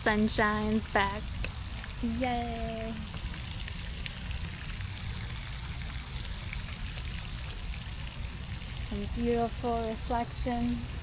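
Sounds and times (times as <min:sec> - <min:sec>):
rain falling and dripping: 0:00.0 - 0:11.0.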